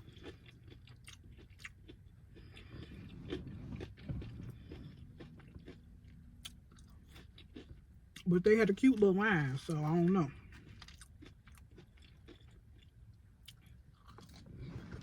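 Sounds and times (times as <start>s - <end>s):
chewing crunchy fried food: 0.0s - 15.0s.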